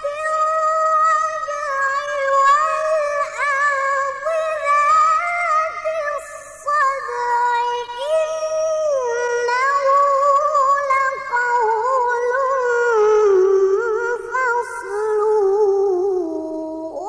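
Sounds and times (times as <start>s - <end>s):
woman reciting melodically: 0.0s - 17.0s.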